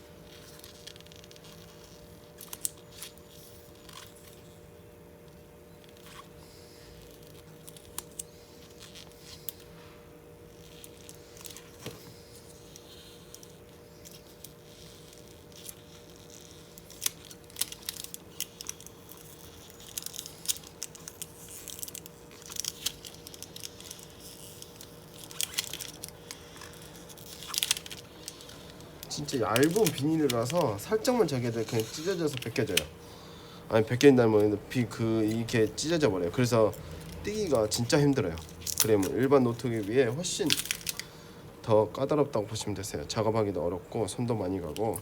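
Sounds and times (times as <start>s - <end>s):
film peeling with crackles: 0.0s - 43.1s, 44.1s - 45.0s
faint steady hum: 0.0s - 45.0s.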